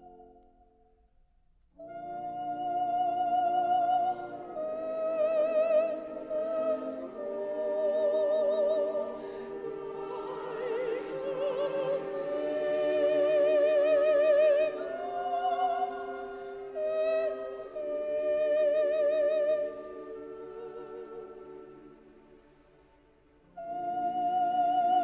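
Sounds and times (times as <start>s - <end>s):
full orchestra: 0.0s - 1.0s, 1.6s - 25.0s
operatic soprano singing: 1.8s - 25.0s.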